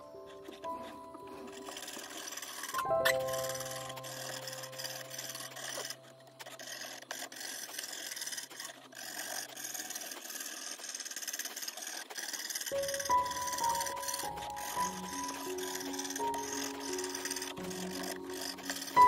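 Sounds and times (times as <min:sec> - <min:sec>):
saw cutting thin metal: 0:00.0 - 0:19.0.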